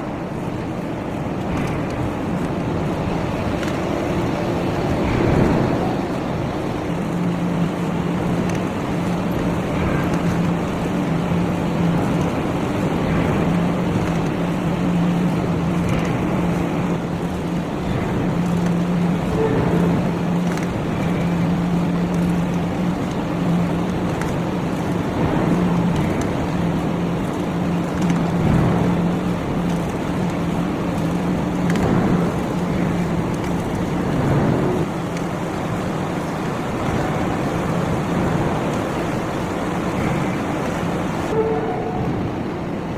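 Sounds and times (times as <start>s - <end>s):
heavy forging machinery running: 0.0s - 42.9s
low motor hum: 0.0s - 42.9s.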